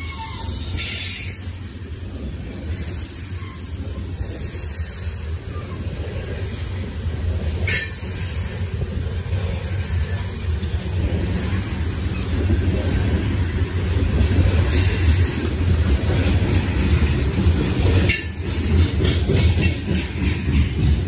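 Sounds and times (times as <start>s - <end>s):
train cars rumbling over rails: 0.0s - 21.0s
train clanks and clicks: 0.0s - 21.0s.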